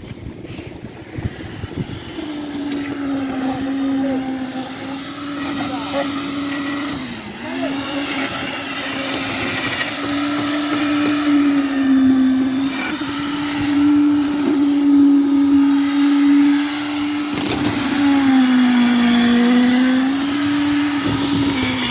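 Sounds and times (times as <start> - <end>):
concrete vibrator motor humming: 0.0 - 21.9.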